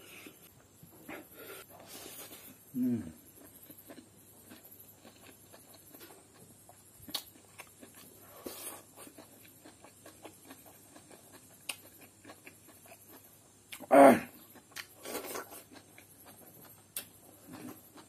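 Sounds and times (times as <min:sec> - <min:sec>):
quiet chewing and mouth smacks: 0:00.2 - 0:18.0.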